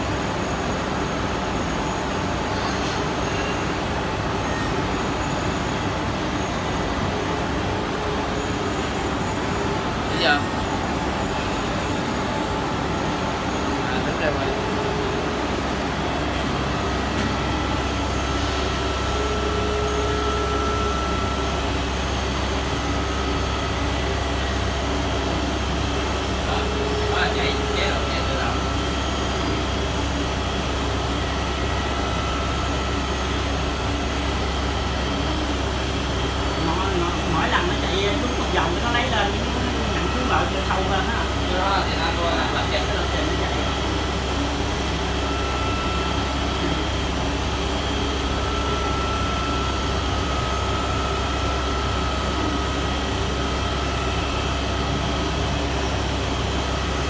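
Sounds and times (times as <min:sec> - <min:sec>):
machine mechanical hum: 0:00.0 - 0:57.0
thin high whine: 0:00.0 - 0:57.0.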